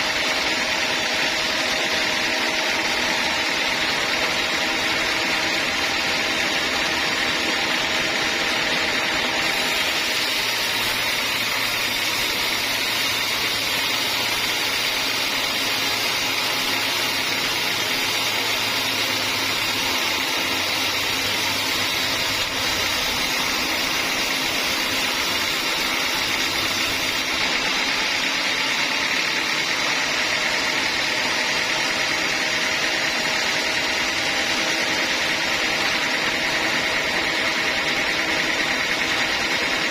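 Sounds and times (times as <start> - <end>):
band sawmill sawing a log: 0.0 - 39.9.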